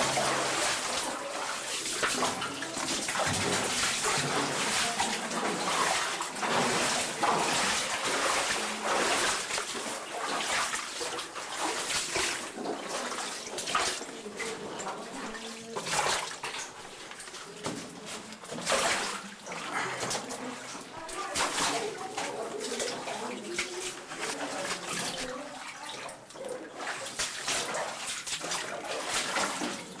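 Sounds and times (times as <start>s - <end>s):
stream water splashing: 0.0s - 30.0s.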